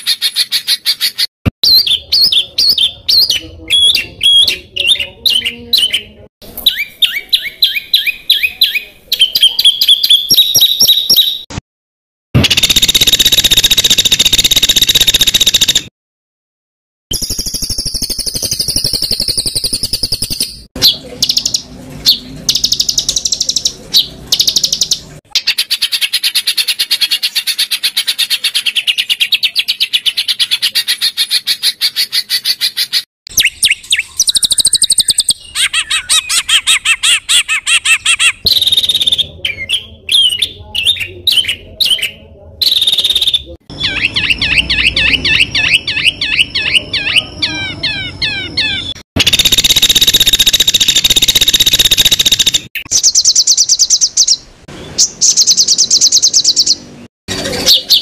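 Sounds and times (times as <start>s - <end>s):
harsh chattering bird trills: 0.0s - 11.4s, 12.4s - 15.9s, 17.1s - 54.4s
songbirds singing: 0.0s - 11.5s, 17.1s - 58.0s.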